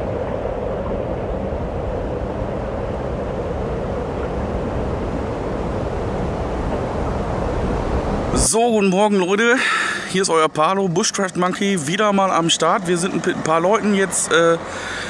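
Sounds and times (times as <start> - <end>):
steady rushing rumbling noise: 0.0 - 15.0.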